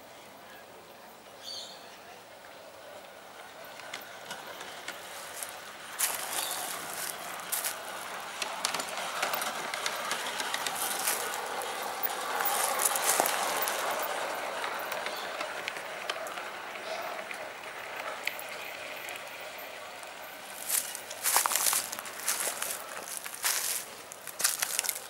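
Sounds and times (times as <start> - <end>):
model train rolling on track: 2.2 - 25.0
sharp clicks of train wheels: 3.4 - 25.0.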